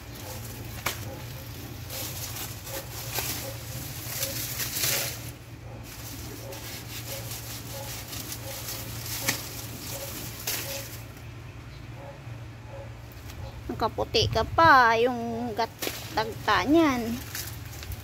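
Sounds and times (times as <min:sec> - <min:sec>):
leaves rustling: 0:00.0 - 0:11.4, 0:14.9 - 0:18.0.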